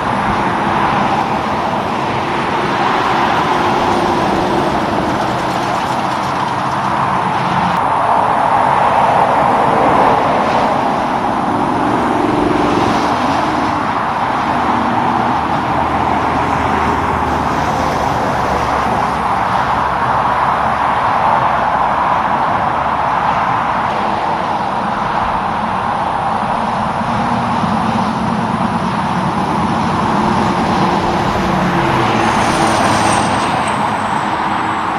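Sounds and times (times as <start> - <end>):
passing road traffic: 0.0 - 34.9.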